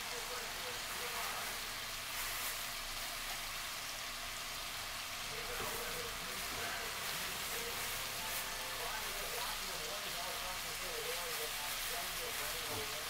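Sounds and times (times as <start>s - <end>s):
chicken sizzling in a skillet: 0.0s - 13.0s.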